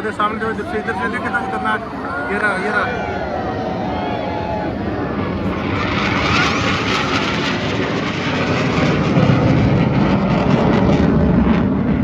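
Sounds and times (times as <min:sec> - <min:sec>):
aircraft flying low past: 0:00.0 - 0:12.0.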